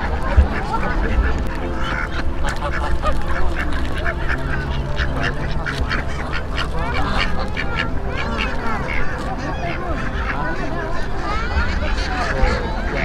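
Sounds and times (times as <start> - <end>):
ducks and geese quacking: 0.0 - 13.0.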